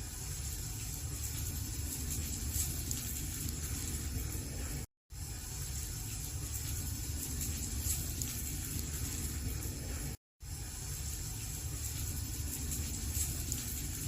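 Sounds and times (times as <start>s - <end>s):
fire burning with low rush: 0.0s - 14.0s
fire crackles and pops: 0.2s - 4.8s, 5.6s - 10.1s, 11.3s - 14.0s.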